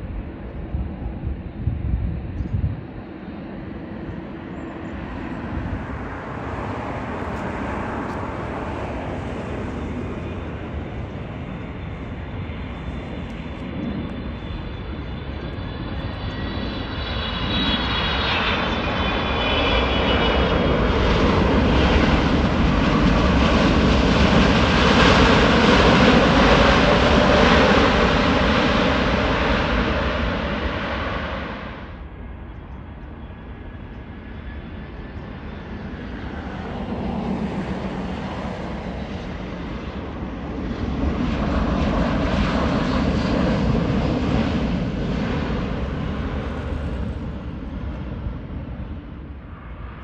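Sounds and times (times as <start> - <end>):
jet engines roaring: 0.0 - 50.0.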